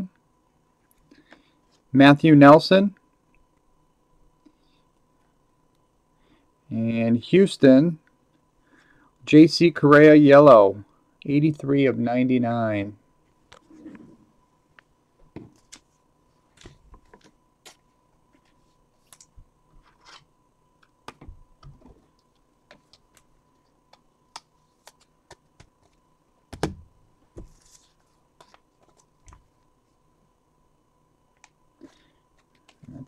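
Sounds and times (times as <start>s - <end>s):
faint electronic hum: 0.0s - 33.0s.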